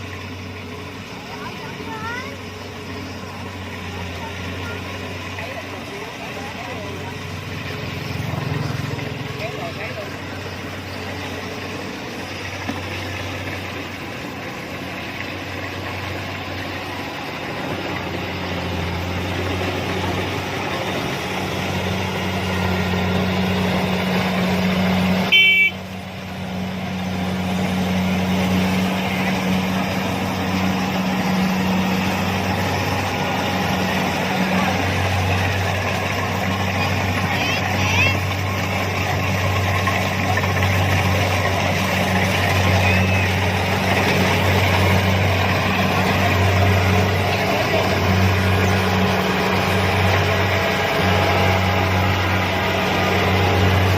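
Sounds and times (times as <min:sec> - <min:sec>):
combine harvester engine hum: 0:00.0 - 0:53.9.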